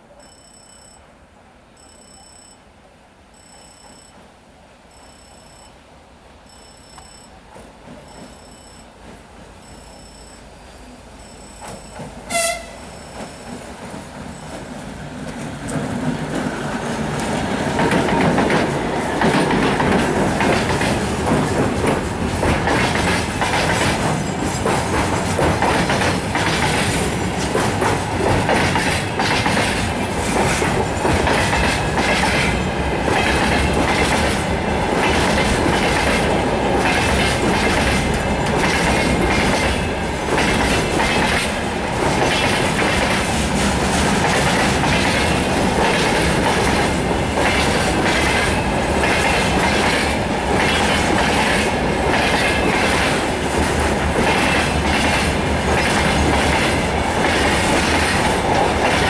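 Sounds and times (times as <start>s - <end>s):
clickety-clack of train wheels: 6.9s - 10.4s, 11.2s - 59.0s
train wagons rumbling: 7.3s - 59.0s
diesel locomotive passing: 8.9s - 59.0s.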